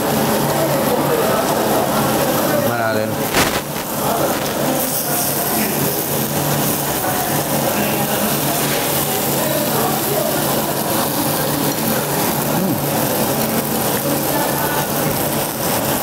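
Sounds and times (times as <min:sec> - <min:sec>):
background chatter: 0:00.0 - 0:16.0.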